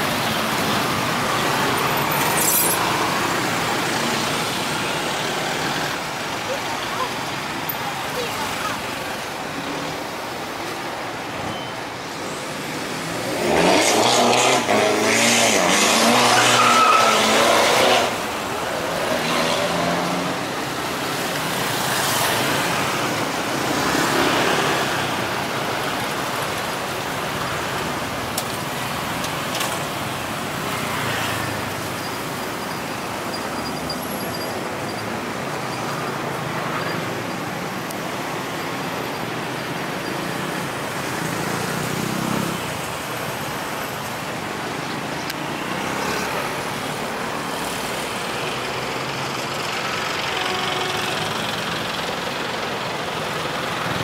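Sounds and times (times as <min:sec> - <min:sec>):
steady traffic hum: 0:00.0 - 0:54.0.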